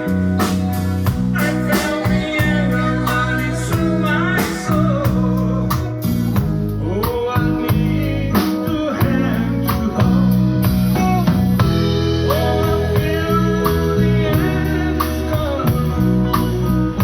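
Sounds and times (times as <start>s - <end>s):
blues band playing live: 0.0s - 17.0s
person singing: 1.2s - 11.0s, 11.7s - 17.0s.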